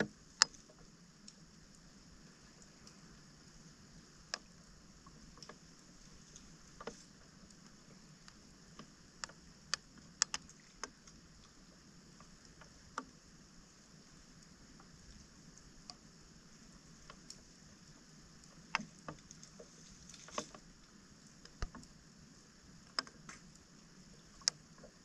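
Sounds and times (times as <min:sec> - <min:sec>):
steady high hiss: 0:00.0 - 0:25.0.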